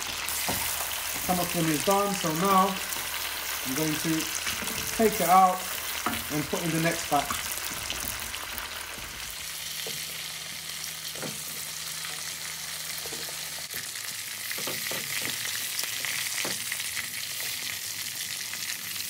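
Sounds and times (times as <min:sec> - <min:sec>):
chicken frying in hot oil: 0:00.0 - 0:19.0.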